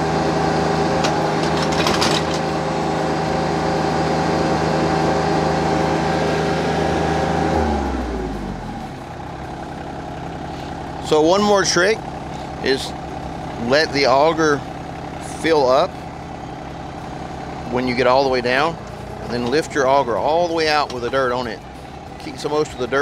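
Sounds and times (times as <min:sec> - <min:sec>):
tractor diesel engine: 0:00.0 - 0:23.0.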